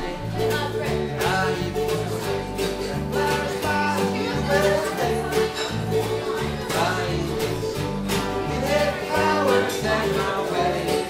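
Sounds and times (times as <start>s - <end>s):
acoustic guitars strumming: 0.0s - 11.0s
voices singing country song: 0.0s - 11.0s.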